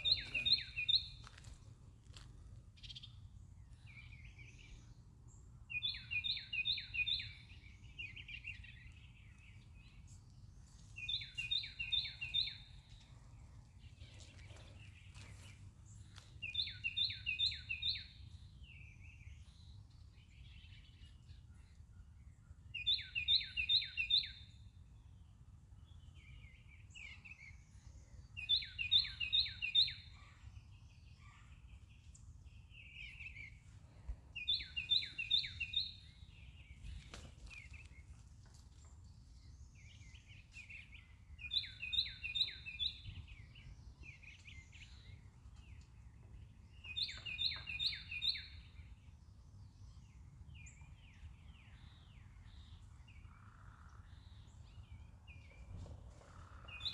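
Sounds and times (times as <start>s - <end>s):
soft bird chirps: 0.0s - 56.9s.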